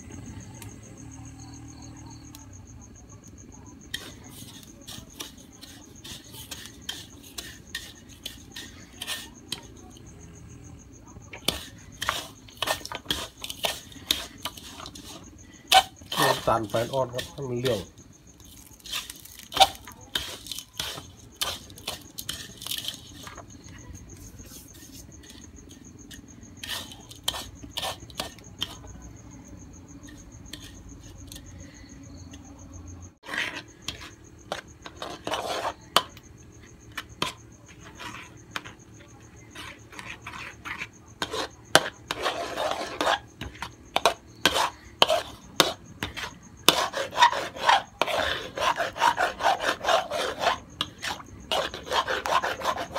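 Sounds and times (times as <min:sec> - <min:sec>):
metal ladle scraping wok: 0:03.8 - 0:09.8, 0:11.3 - 0:28.9, 0:30.0 - 0:31.8, 0:33.2 - 0:36.2, 0:36.9 - 0:52.9.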